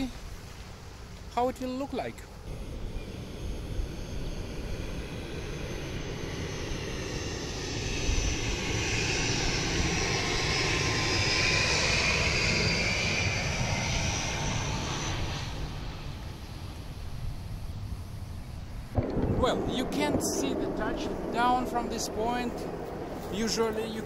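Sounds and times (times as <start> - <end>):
turboprop airliner flying past: 2.2 - 24.0.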